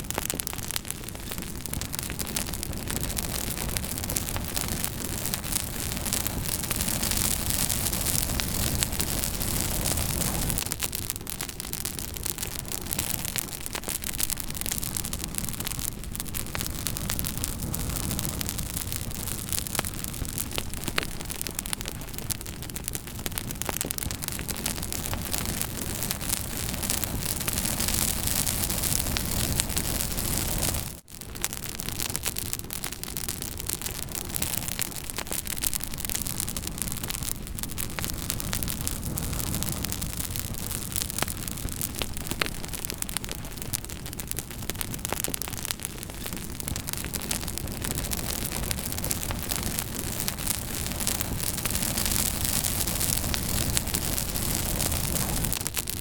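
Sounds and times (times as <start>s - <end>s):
burning wood crackling and popping: 0.0s - 56.0s
campfire flames hissing: 0.0s - 56.0s.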